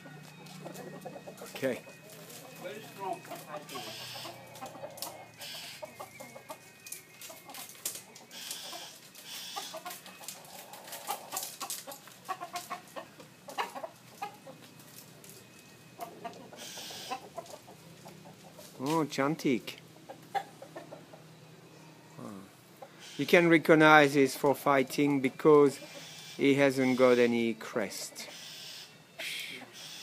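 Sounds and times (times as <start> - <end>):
roosters clucking: 0.0 - 30.0.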